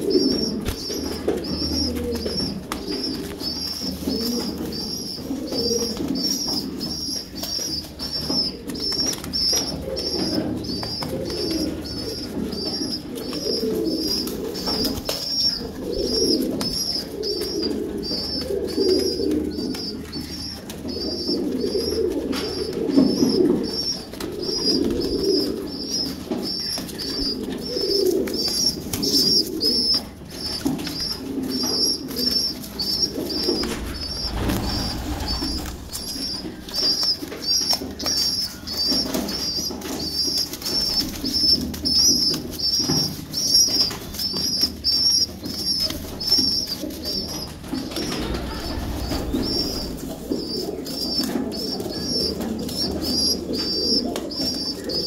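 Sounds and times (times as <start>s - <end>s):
bird cooing: 0.0s - 55.0s.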